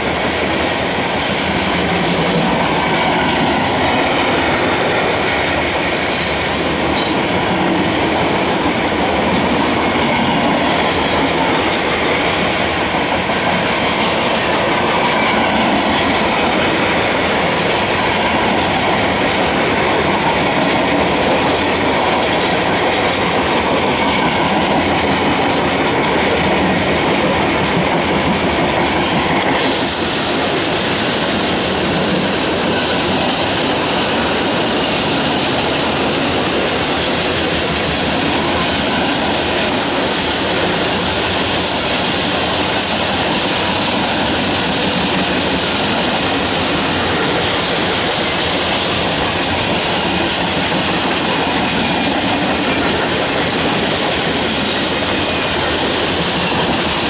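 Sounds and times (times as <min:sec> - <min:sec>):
freight train wheels clattering: 0:00.0 - 0:57.0.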